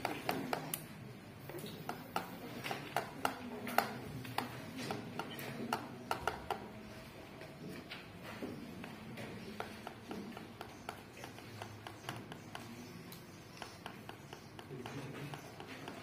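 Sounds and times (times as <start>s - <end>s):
faint low room murmur: 0.0s - 16.0s.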